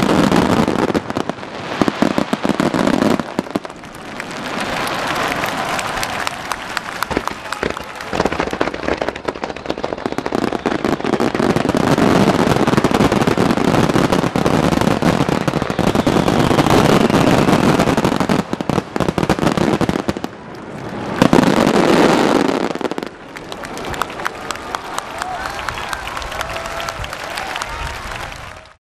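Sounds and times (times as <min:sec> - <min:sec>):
fireworks crackling and booming: 0:00.0 - 0:28.8.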